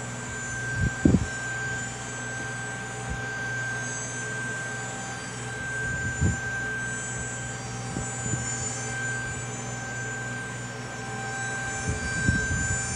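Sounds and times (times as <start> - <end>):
machine drone with high whine: 0.0 - 12.9.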